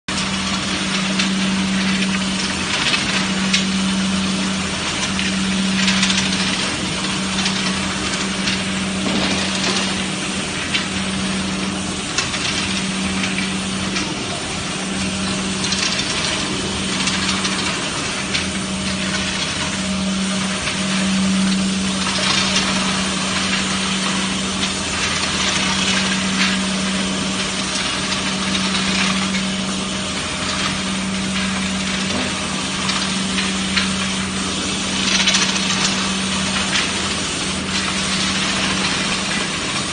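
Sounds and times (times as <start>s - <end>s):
factory machinery humming: 0.1s - 39.9s.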